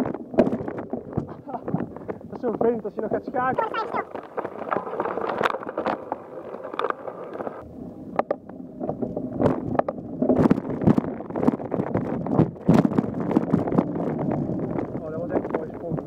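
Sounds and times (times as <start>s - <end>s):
bike knocks and rattles: 0.0s - 7.6s, 8.2s - 16.0s
wind on microphone: 0.0s - 16.0s.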